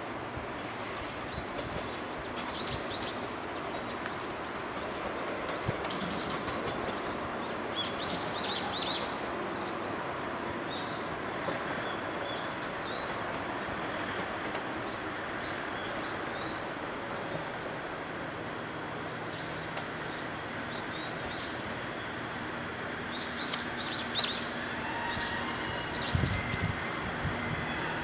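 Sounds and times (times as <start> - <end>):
diesel railcar engine humming: 0.0 - 28.0
steady outdoor noise: 0.0 - 28.0.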